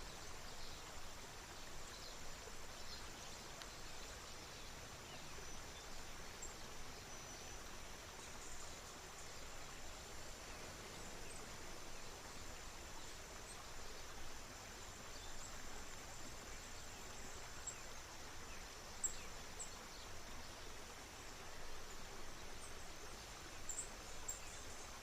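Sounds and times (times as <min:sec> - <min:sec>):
river water running: 0:00.0 - 0:25.0.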